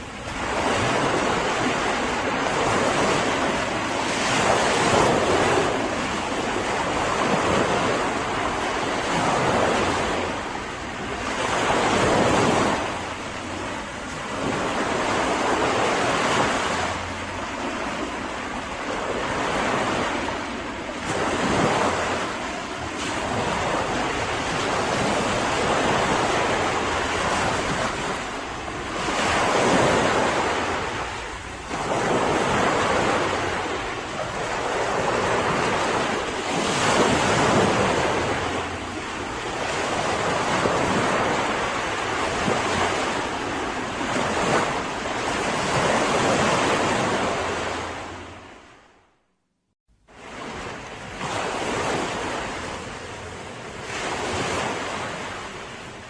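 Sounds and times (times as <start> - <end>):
sea waves breaking on beach: 0.0 - 48.9, 50.1 - 56.0.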